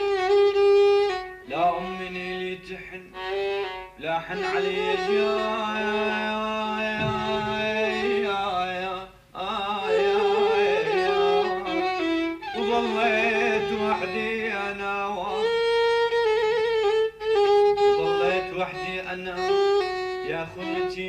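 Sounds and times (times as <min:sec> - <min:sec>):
violin melody in song: 0:00.0 - 0:21.0.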